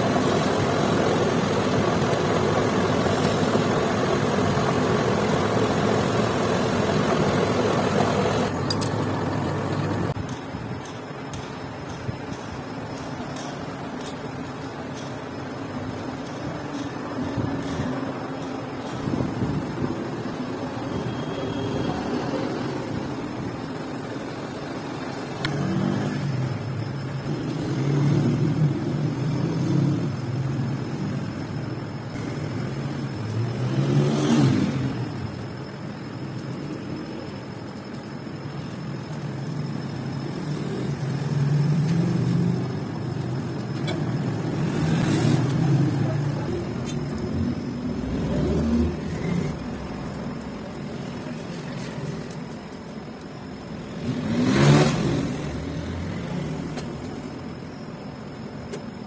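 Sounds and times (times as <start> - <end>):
vehicles passing on road: 0.0 - 59.0.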